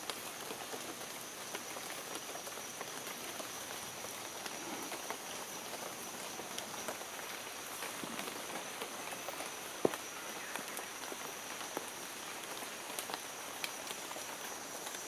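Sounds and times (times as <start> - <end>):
rain pattering on leaves: 0.0 - 15.0.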